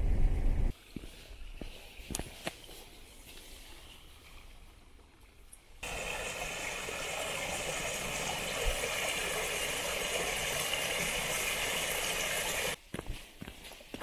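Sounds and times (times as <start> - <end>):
running water: 0.8 - 12.8.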